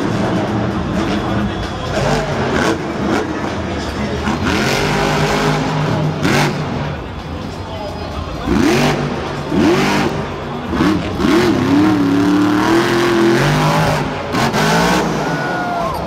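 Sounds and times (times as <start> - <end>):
truck engine revving hard: 0.0 - 7.5, 8.2 - 16.0.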